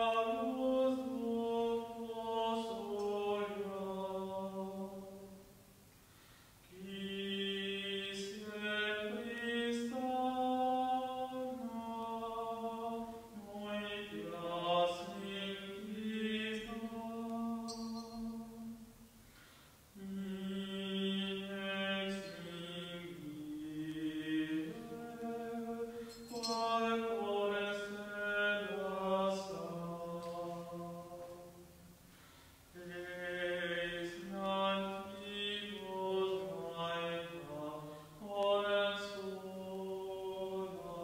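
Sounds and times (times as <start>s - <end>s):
person singing a hymn: 0.0s - 5.6s, 6.6s - 41.0s.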